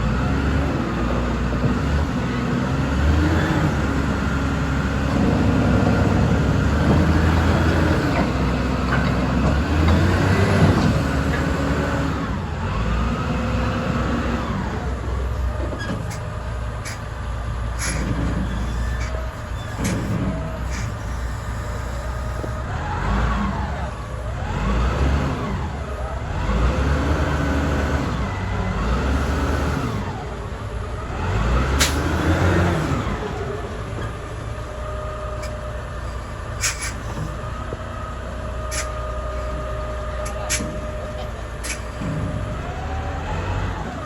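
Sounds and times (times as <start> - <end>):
diesel engine revving: 0.0 - 44.0.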